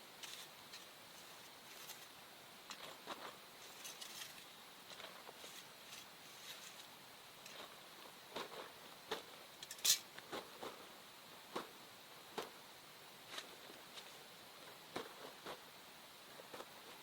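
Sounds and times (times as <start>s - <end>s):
campfire crackling and popping: 0.0s - 17.0s
faint steady hiss: 0.0s - 17.0s.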